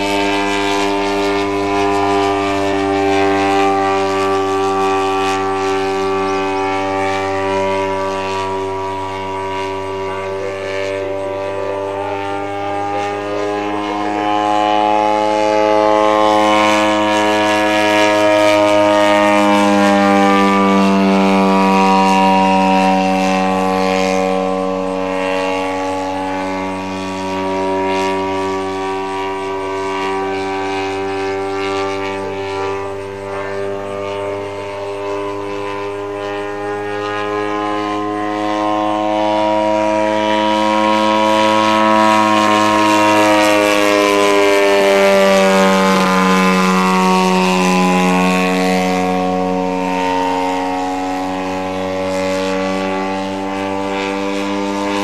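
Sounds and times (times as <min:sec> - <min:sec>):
model plane engine droning: 0:00.0 - 0:55.0.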